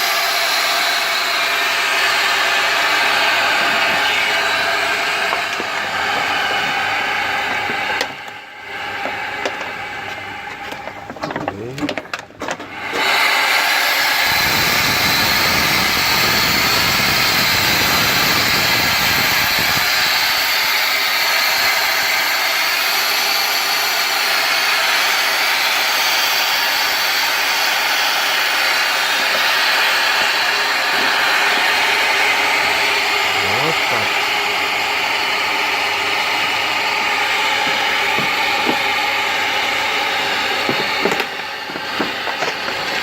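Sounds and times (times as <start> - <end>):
steam hissing from sauna stove: 0.0 - 11.0, 12.7 - 43.0.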